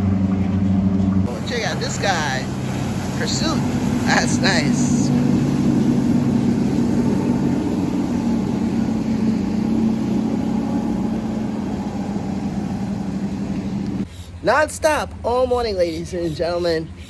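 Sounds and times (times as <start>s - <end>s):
motorboat engines running: 0.0s - 17.0s.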